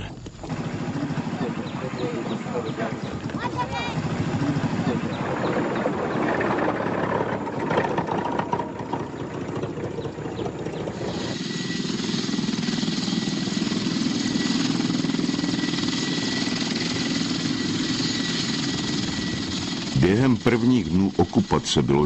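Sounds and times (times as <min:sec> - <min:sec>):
rapid mechanical clatter: 0:00.0 - 0:21.4
helicopter engine and rotor drone: 0:00.0 - 0:22.0.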